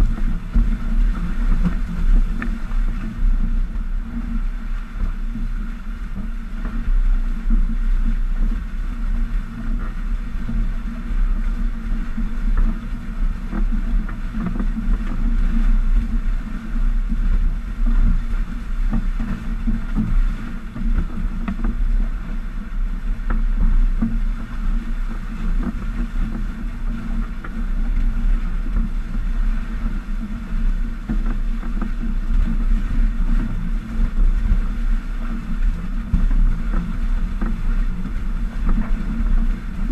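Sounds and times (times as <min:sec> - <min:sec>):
water rushing along hulls: 0:00.0 - 0:39.9
wind noise on microphone: 0:00.0 - 0:39.9.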